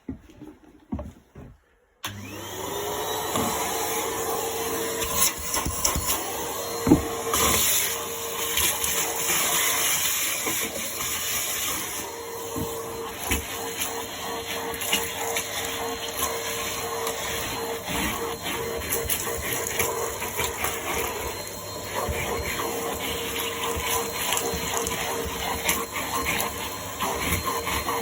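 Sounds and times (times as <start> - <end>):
vacuum cleaner motor running: 2.0 - 28.0.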